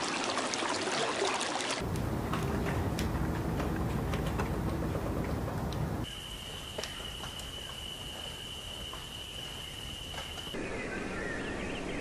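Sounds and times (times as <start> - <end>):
songbird twittering warble: 2.0 - 12.0.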